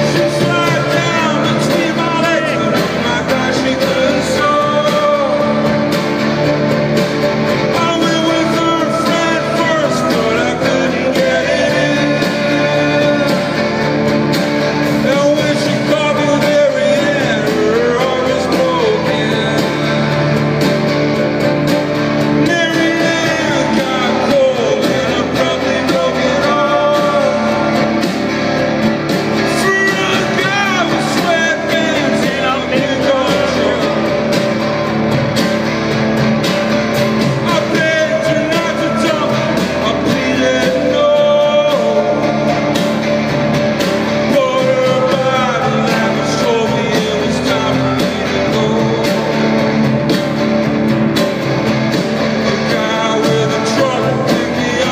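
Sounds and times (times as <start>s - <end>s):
acoustic guitar: 0.0s - 54.9s
man singing: 0.0s - 54.9s.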